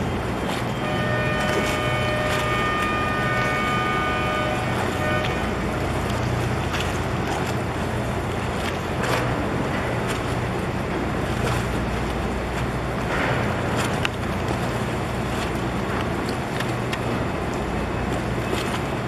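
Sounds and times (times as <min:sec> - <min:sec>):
boat engine drone: 0:00.0 - 0:19.0
water washing: 0:00.0 - 0:19.0.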